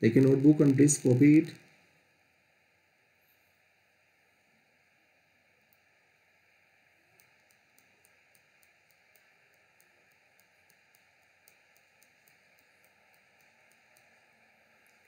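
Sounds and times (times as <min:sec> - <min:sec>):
faint room tone hiss: 0:00.0 - 0:15.0.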